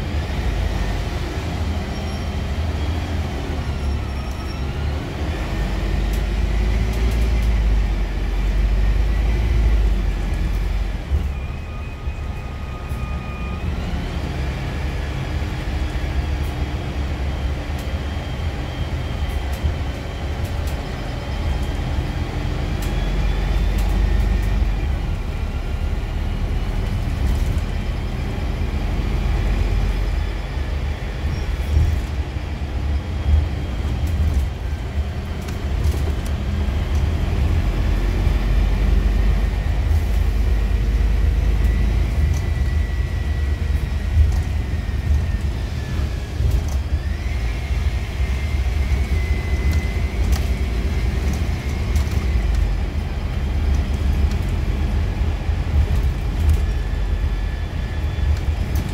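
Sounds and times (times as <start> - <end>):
bus engine and road rumble: 0.0 - 58.9.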